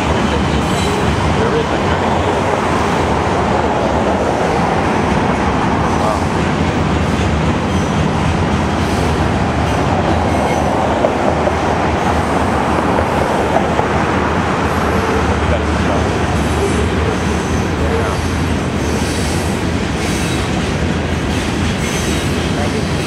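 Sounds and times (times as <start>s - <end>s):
steel wheels on rail: 0.0s - 23.0s.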